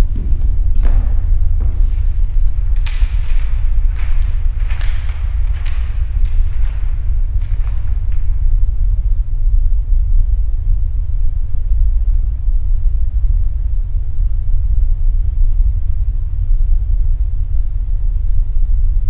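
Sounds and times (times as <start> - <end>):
deep low rumble drone: 0.0 - 19.0.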